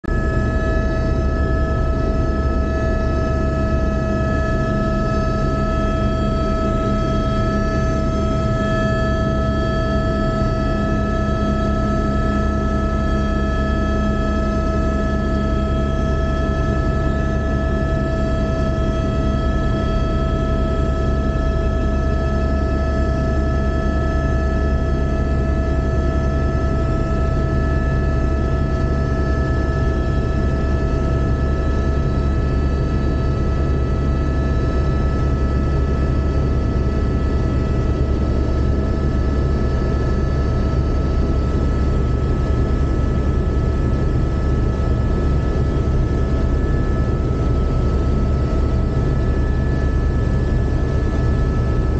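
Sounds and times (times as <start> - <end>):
helicopter cabin drone: 0.0 - 51.9.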